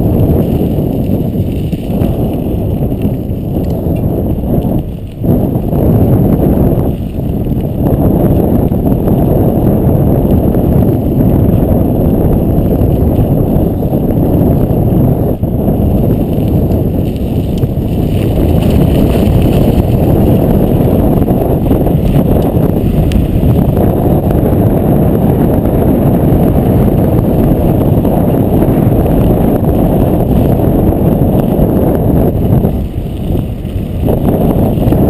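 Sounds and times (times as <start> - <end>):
bicycle tyre rumble: 0.0 - 35.0
wind buffeting microphone: 0.0 - 35.0.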